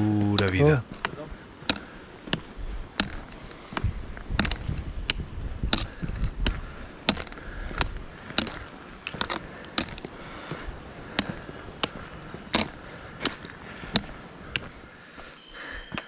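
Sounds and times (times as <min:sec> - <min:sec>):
footsteps crunching on rocky trail: 0:00.0 - 0:16.0
trekking poles clicking on stone: 0:00.2 - 0:14.7.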